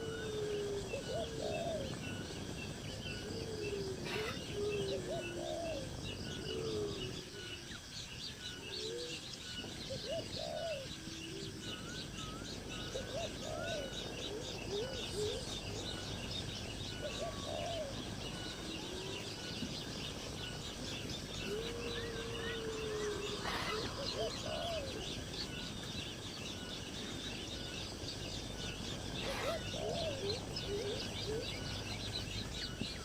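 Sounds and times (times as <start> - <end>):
high background hiss: 0.0 - 33.0
higher bird chirps: 0.0 - 33.0
low arching bird calls: 0.0 - 33.0.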